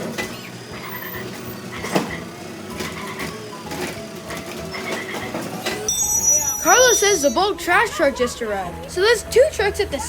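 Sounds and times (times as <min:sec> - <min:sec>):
sped-up garbage truck chatter: 0:00.0 - 0:10.0.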